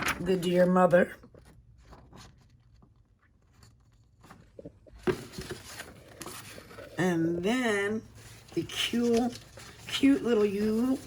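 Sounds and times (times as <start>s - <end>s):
paper rustling and scraping: 1.4s - 11.0s.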